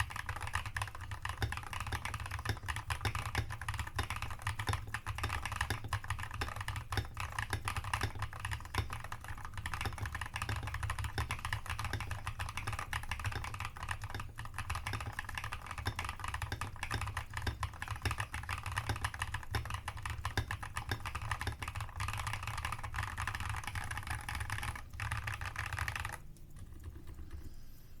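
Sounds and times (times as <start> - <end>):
mechanical keyboard typing: 0.0 - 27.5.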